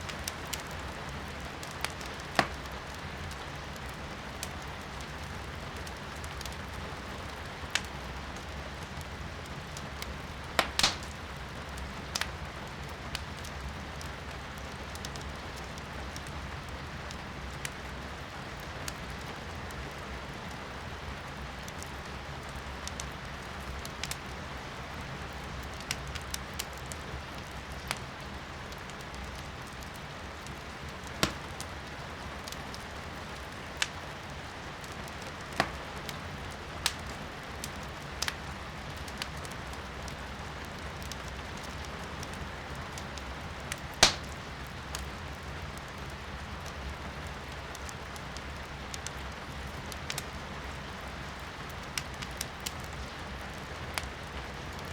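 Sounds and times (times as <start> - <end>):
firewood crackling and popping: 0.0 - 54.9
steady rain: 0.0 - 54.9.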